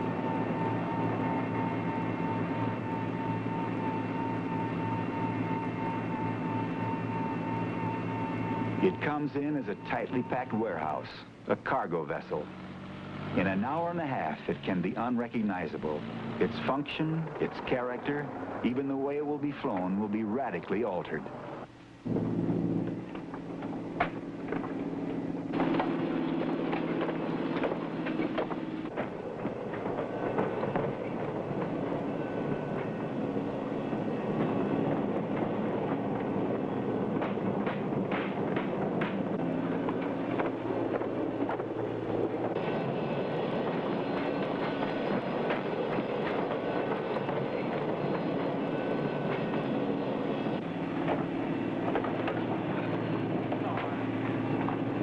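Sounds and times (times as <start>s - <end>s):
cargo machinery running: 0.0s - 55.0s.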